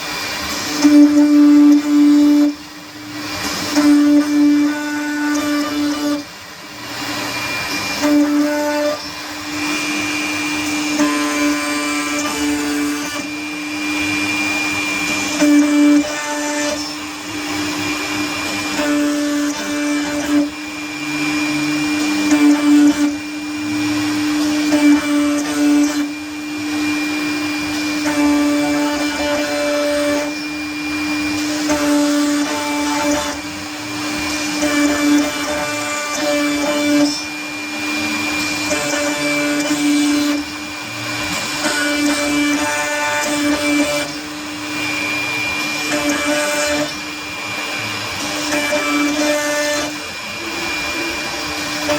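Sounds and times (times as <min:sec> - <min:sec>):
router spindle whine: 0:00.0 - 0:51.9
stepper motor tones: 0:00.0 - 0:51.9.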